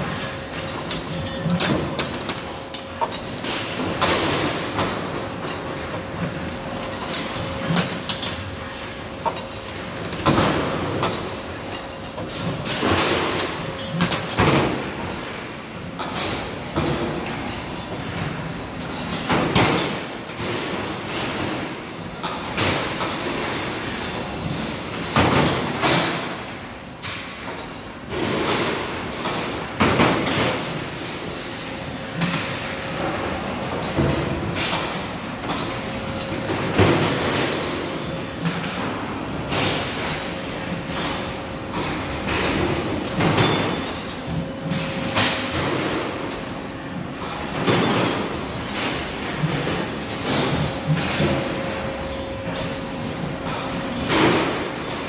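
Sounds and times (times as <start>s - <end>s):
wire bending machine hum: 0.0s - 55.0s.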